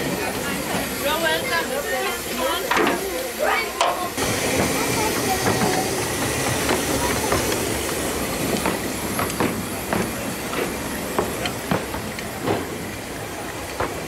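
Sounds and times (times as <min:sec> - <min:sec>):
steam locomotive running slowly: 0:00.0 - 0:14.0
wheels clicking and knocking: 0:00.0 - 0:14.0.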